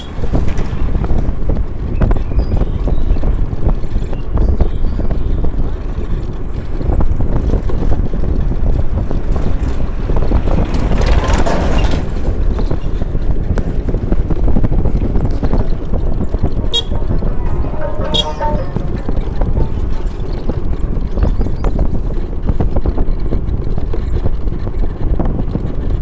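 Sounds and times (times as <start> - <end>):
road travel rumble: 0.0 - 26.0
wind buffeting microphone: 0.0 - 26.0.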